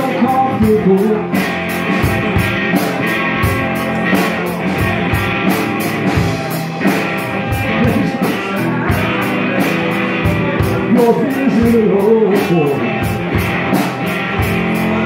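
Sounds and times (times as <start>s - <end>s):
drum kit beat: 0.0s - 15.0s
rock guitar: 0.0s - 15.0s.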